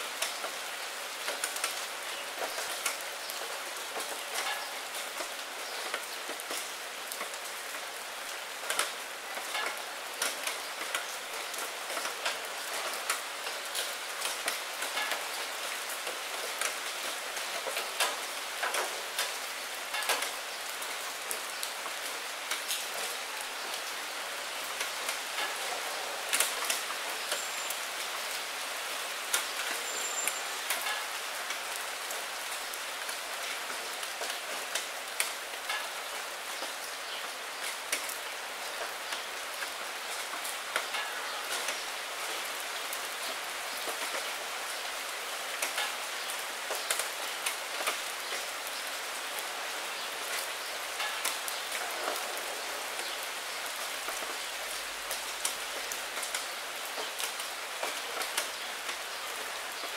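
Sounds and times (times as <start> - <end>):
rain hissing on window: 0.0 - 59.9.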